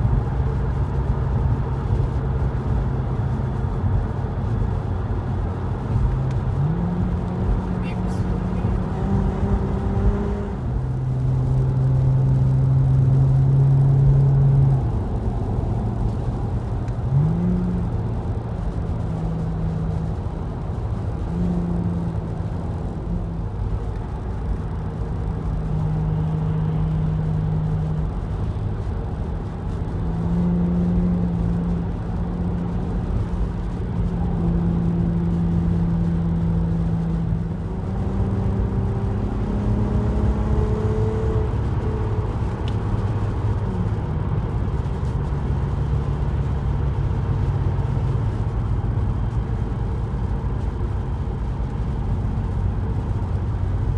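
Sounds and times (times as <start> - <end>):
low car engine hum: 0.0 - 53.9
road and tyre noise: 0.0 - 53.9.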